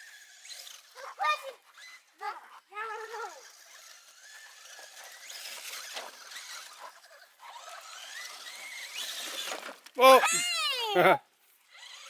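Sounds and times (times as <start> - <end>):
toy truck electric motor whining: 0.0 - 12.0.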